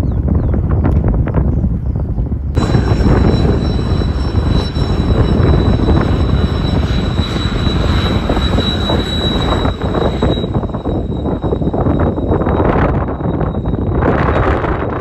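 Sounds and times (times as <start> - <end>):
aircraft engines roaring: 0.0 - 15.0
high steady engine whine: 2.2 - 15.0.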